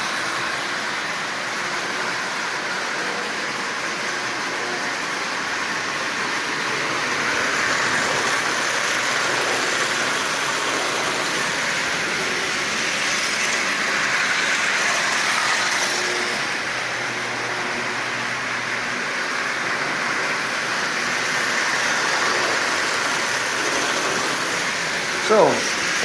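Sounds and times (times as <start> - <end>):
toy train motor whirring: 0.0 - 26.0.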